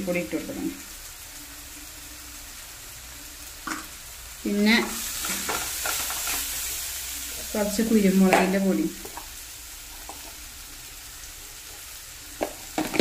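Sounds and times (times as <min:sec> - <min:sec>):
food sizzling in pan: 0:00.0 - 0:13.0.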